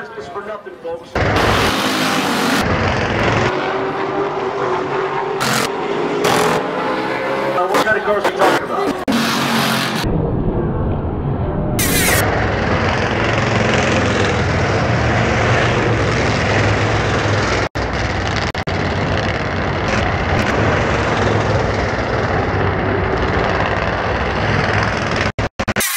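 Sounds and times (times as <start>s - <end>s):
racing car engines droning: 0.0s - 25.4s.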